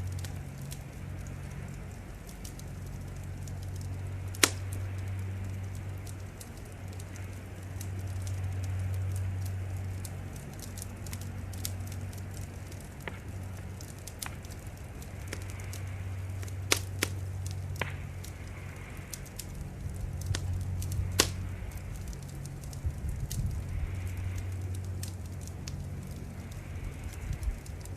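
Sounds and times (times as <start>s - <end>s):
sharp pops of fire: 0.0s - 27.9s
steady low rumble: 0.0s - 27.9s
wood fire crackling: 0.0s - 27.9s.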